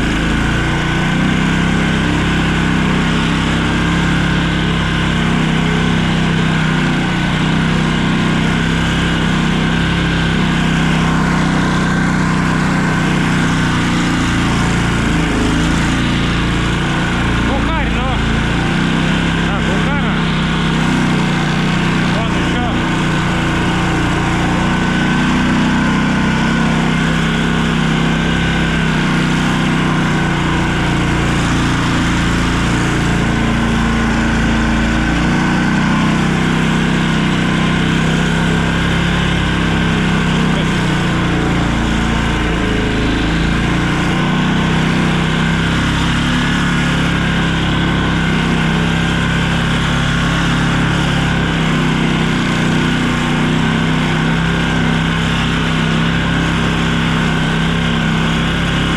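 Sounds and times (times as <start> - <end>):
road noise: 0.0 - 58.9
vehicle engine running: 0.0 - 58.9.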